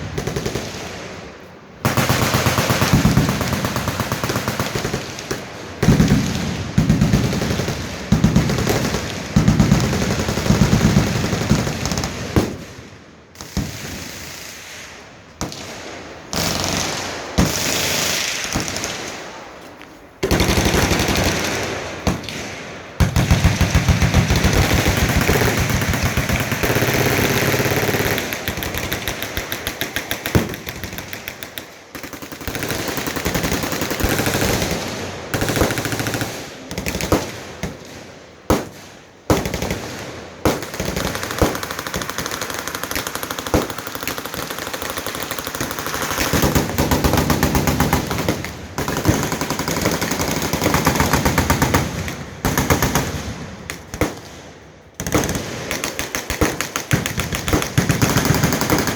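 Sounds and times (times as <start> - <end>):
machine guns firing: 1.8 - 12.7, 20.2 - 54.4, 55.0 - 58.9.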